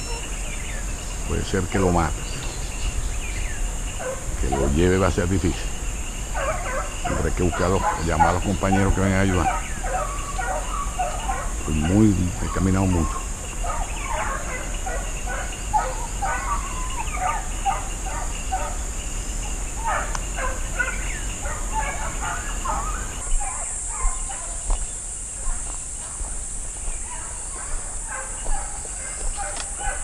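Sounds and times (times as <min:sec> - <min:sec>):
distant hounds baying: 0:00.0 - 0:30.0
high insect drone: 0:00.0 - 0:30.0.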